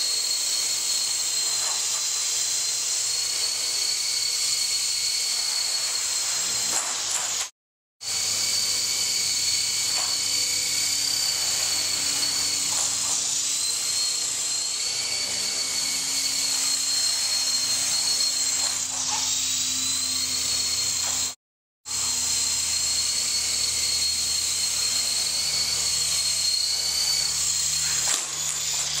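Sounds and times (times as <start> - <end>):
rc helicopter whine: 0.0 - 29.0.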